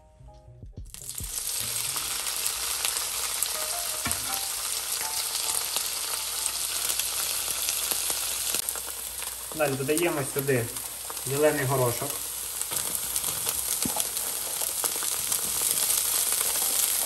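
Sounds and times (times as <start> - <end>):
mushrooms sizzling in hot oil: 0.9 - 17.0.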